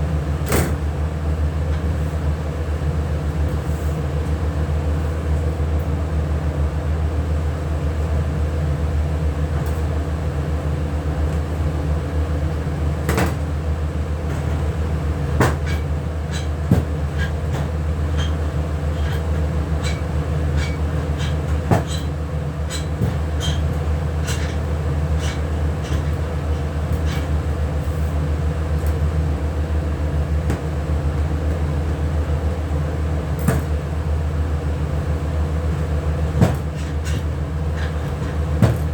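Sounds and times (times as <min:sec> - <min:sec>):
machine humming low: 0:00.0 - 0:38.9.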